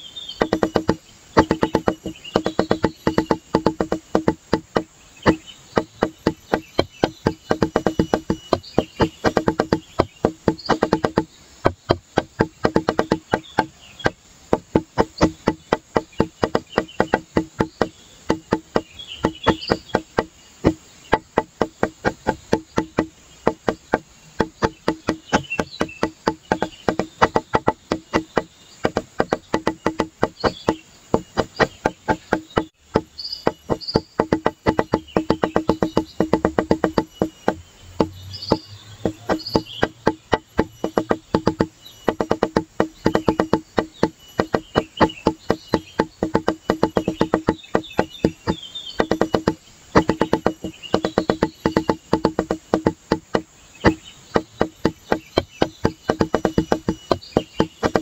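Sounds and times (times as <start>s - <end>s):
percussive background music: 0.4s - 58.0s.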